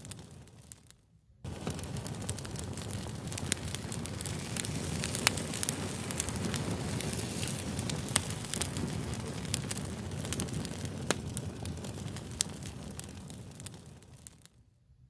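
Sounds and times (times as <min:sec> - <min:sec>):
fire crackling: 0:00.0 - 0:14.7.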